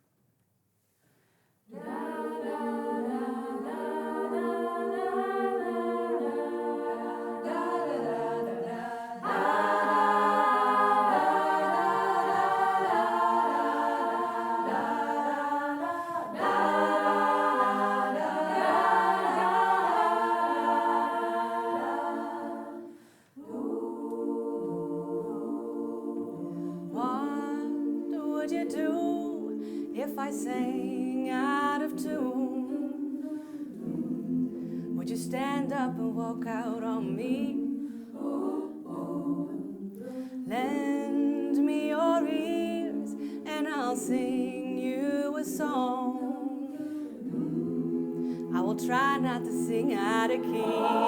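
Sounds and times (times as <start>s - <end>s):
women's choir singing a cappella: 1.7s - 51.0s.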